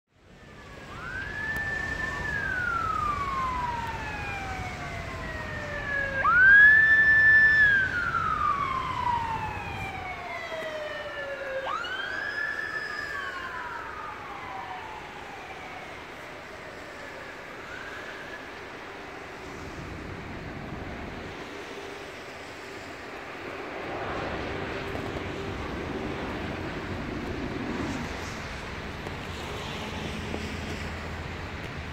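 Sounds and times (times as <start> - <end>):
siren wailing: 0.3 - 28.9.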